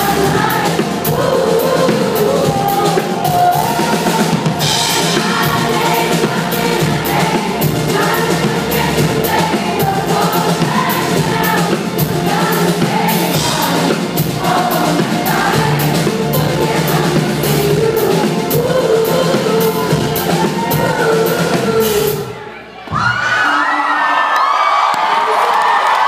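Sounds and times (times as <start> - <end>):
drum beat and bass: 0.0 - 22.3
woman singing pop song: 0.0 - 22.3.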